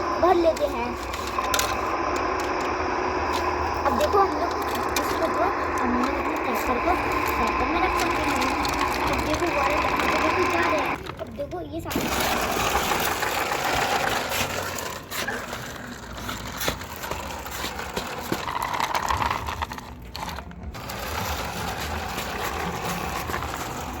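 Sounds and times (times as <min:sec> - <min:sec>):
plastic toy cars clattering: 0:00.0 - 0:24.0.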